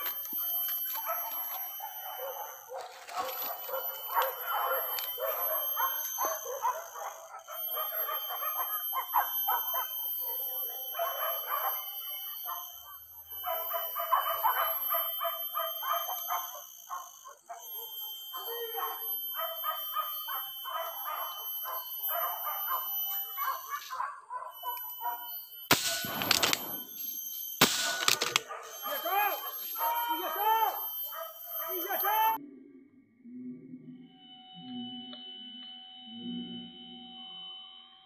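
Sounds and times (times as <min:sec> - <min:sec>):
dogs barking and yelping: 0:00.0 - 0:32.4.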